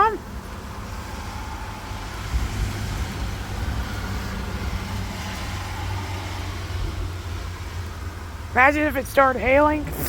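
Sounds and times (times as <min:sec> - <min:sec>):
steady rain falling: 0:00.2 - 0:08.6.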